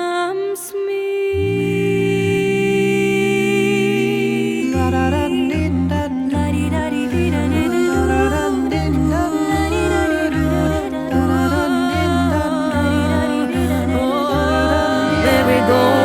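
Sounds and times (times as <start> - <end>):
pulsing vocal bass: 1.4 - 16.0
vocal group humming chords: 1.4 - 16.0.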